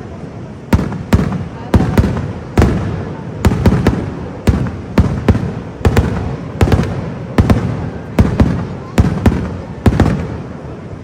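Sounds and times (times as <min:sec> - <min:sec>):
fireworks bangs with rumbling echo: 0:00.5 - 0:11.0.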